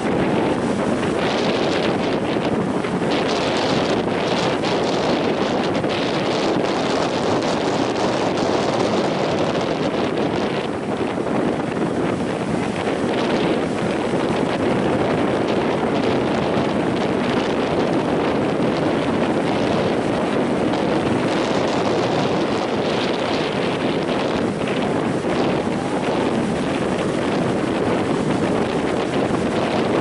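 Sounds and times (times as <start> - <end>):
sea waves breaking: 0.0 - 30.0
wind buffeting microphone: 0.0 - 30.0.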